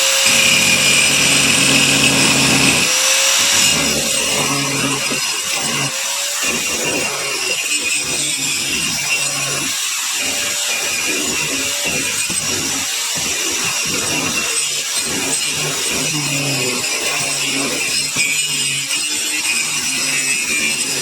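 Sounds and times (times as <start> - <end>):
angle grinder cutting stone: 0.0 - 21.0.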